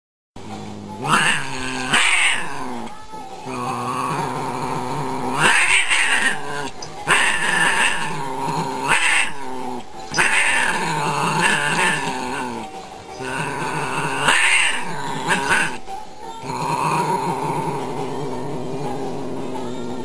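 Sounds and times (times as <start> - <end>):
cats yowling and growling: 0.5 - 20.0.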